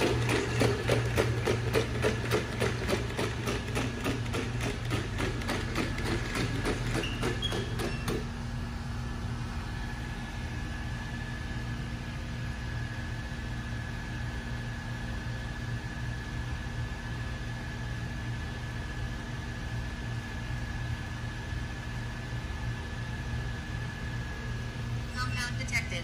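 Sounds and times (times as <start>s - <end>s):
electric hum with high tone: 0.0s - 26.0s.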